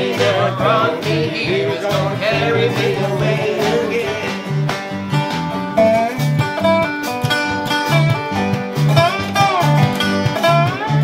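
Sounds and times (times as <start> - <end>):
bass line: 0.0 - 11.0
plucked guitar lead: 0.0 - 11.0
strummed acoustic guitar: 0.0 - 11.0.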